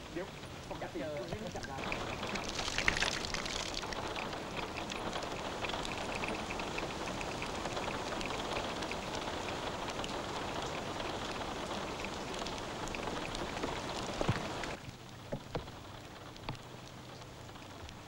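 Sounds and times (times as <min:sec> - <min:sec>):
water falling and spattering: 0:00.0 - 0:15.8.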